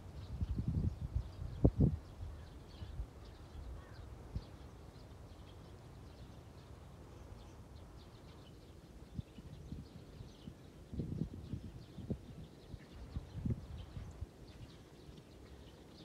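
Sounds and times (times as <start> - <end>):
faint bird chirping: 0.1 - 16.0.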